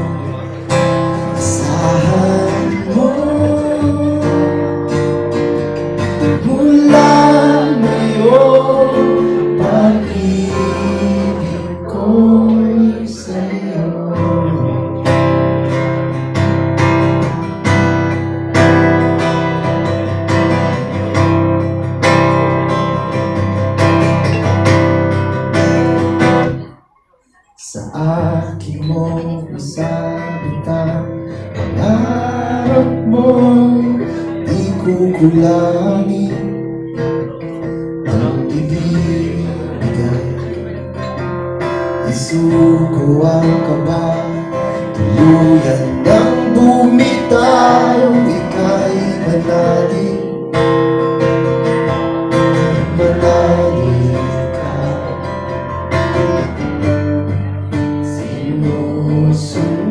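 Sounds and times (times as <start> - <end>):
man singing: 0.0 - 15.8, 27.4 - 59.9
acoustic guitar strumming: 0.0 - 59.9.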